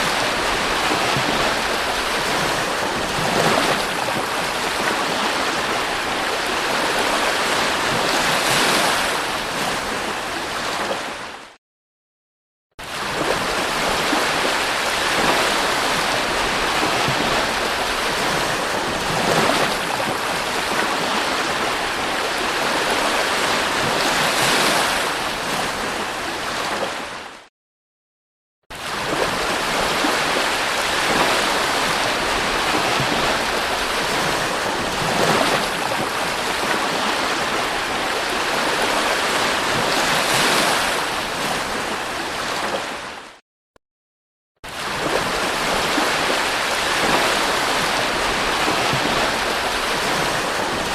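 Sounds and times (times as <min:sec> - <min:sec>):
sea waves washing onto beach: 0:00.0 - 0:11.4, 0:12.8 - 0:27.3, 0:28.7 - 0:43.4, 0:44.7 - 0:50.9.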